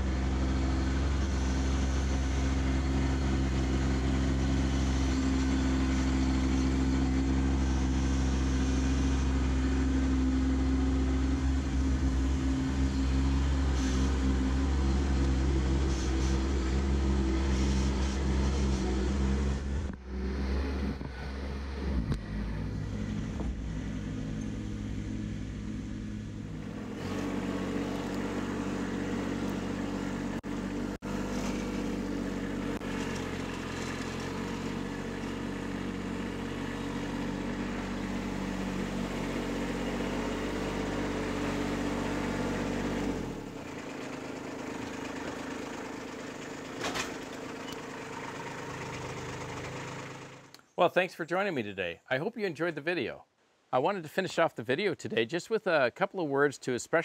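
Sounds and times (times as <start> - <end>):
tractor diesel engine running: 0.0 - 50.7.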